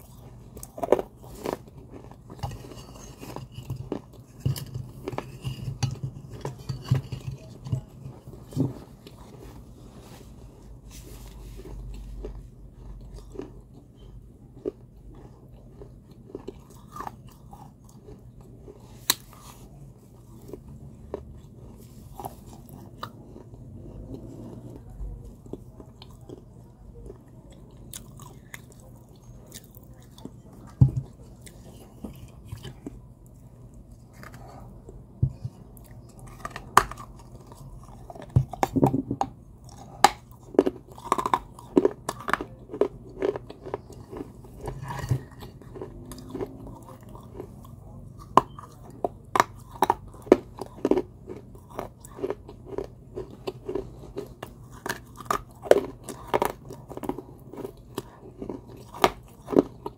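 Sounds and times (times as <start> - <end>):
crunching and chewing clay: 0.0 - 59.9.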